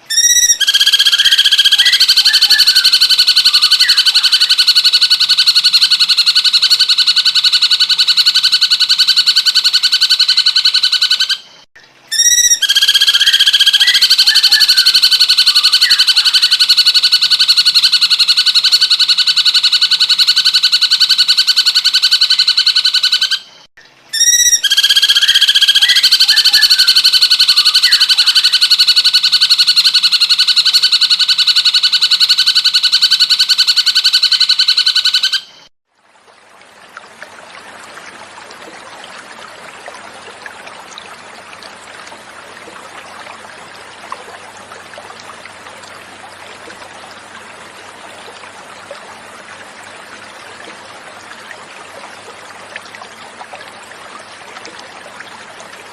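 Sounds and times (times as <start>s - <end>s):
flowing water: 0.0s - 55.9s.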